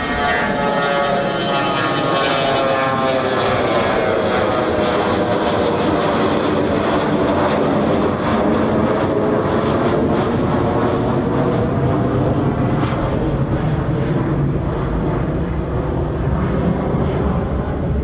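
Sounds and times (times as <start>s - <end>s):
jet aircraft climbing overhead: 0.0s - 18.0s.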